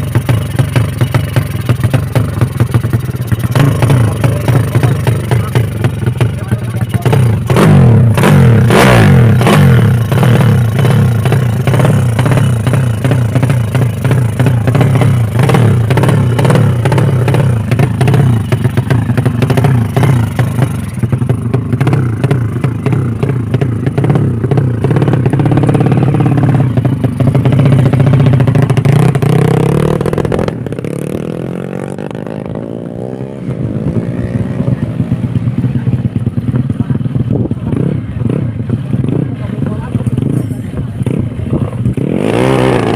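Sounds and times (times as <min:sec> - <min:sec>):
motorcycle engine through exhaust: 0:00.0 - 0:42.9.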